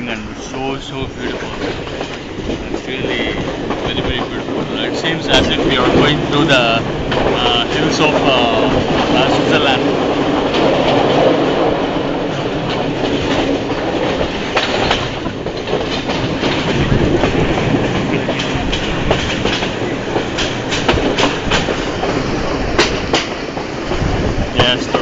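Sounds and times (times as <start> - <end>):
train wheels rumbling on rails: 0.0 - 25.0
sharp clicks and clatter: 1.2 - 25.0.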